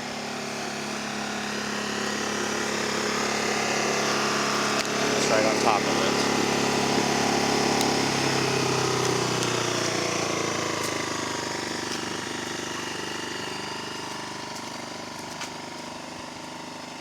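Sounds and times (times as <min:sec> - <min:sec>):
generator running: 0:00.0 - 0:17.0.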